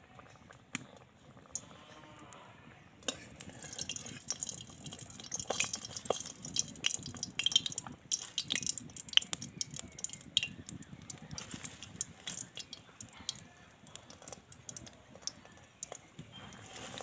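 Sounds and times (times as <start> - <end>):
oil sizzling and popping: 3.0 - 17.0.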